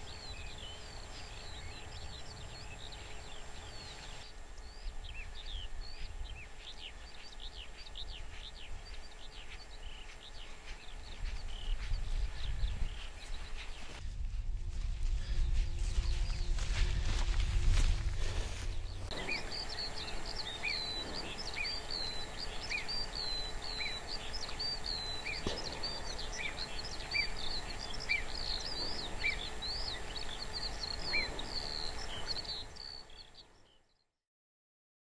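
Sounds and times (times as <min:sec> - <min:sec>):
small birds chirping: 0:00.0 - 0:14.3, 0:14.9 - 0:34.0
low steady background noise: 0:00.0 - 0:33.9.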